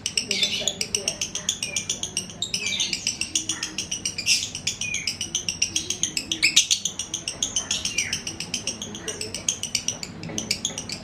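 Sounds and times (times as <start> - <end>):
lovebird rapid high chirps: 0.0 - 11.0.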